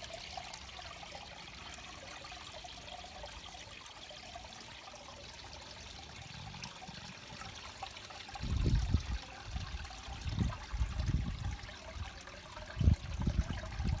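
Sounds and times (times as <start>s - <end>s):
water splashing into pond: 0.0s - 14.0s.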